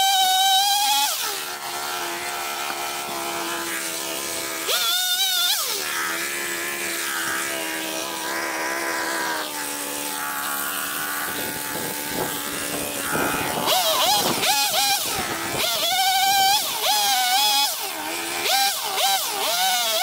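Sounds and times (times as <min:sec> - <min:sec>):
chainsaw idling and revving: 0:00.0 - 0:20.0.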